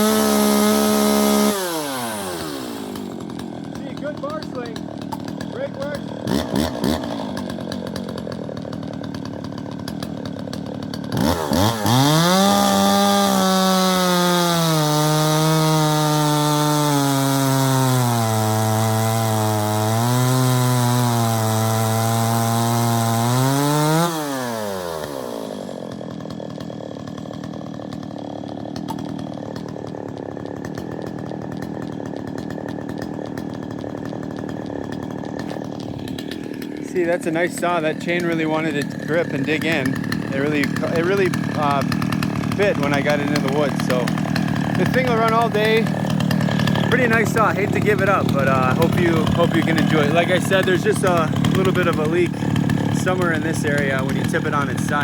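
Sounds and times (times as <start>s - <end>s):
chainsaw cutting into wood: 0.0s - 55.0s
chainsaw idling and revving: 0.0s - 55.0s.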